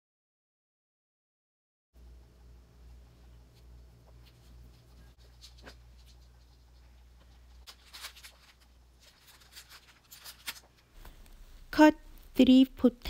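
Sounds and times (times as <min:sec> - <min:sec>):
low steady hum: 0:02.0 - 0:13.0.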